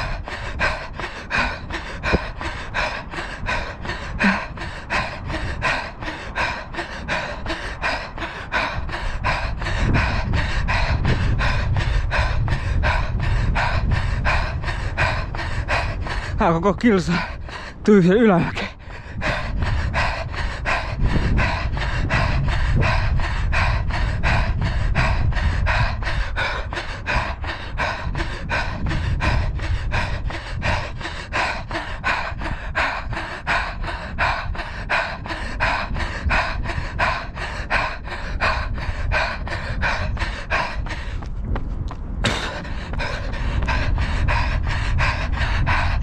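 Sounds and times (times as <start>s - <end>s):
runner panting: 0.0s - 46.0s.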